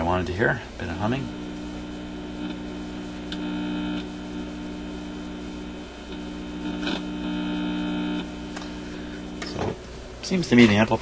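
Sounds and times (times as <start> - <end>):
mains hum from speaker: 0.0 - 11.0.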